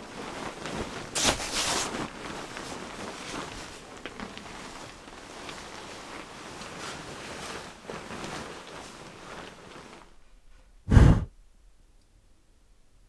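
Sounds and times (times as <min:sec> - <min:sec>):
rustling handling noises: 0:00.0 - 0:10.8.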